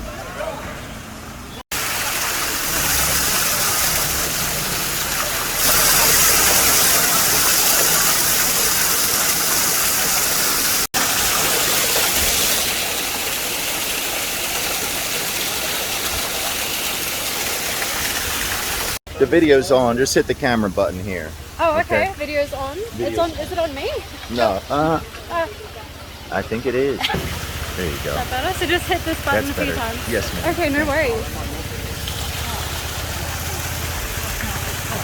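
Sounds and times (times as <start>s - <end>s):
waterfall rushing: 1.7s - 20.8s, 22.8s - 35.0s.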